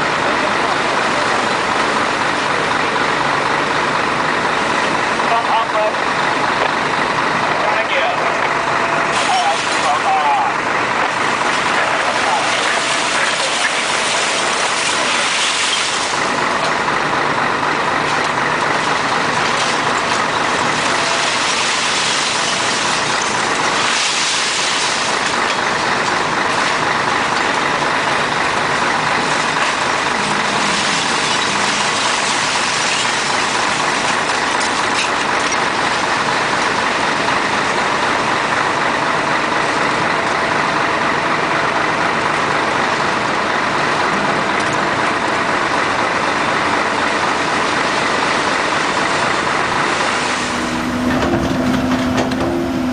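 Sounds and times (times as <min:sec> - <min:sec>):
construction machine engine running: 0:00.0 - 0:52.9.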